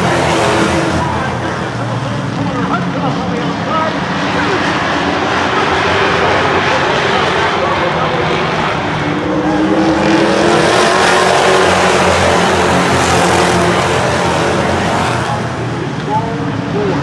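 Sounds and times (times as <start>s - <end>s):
race cars passing: 0.0s - 17.0s.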